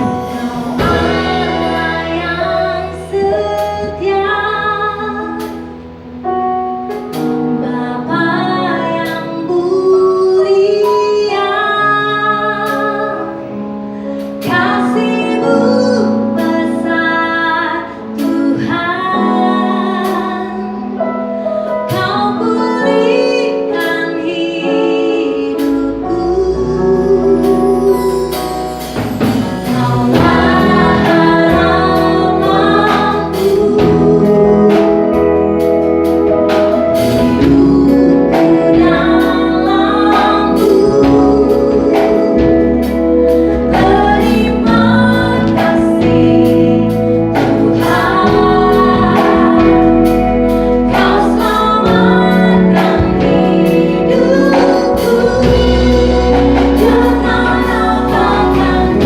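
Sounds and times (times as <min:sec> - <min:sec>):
person singing: 0:00.0 - 0:06.0, 0:07.5 - 0:59.0
band playing: 0:00.0 - 0:59.0
bass guitar: 0:00.0 - 0:59.0
drums: 0:00.0 - 0:59.0.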